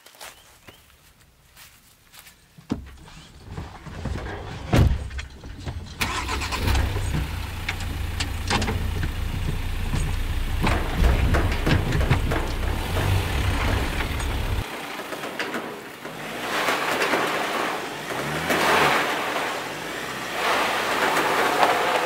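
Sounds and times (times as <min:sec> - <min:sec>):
diesel engine starting and running: 0:03.0 - 0:22.0.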